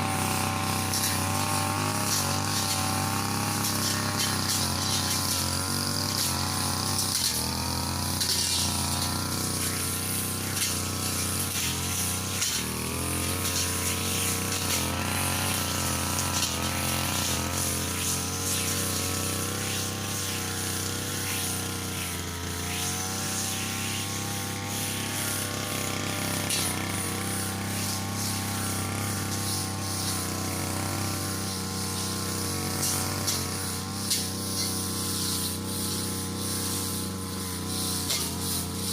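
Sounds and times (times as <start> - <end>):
brush cutter cutting grass: 0.0 - 38.9.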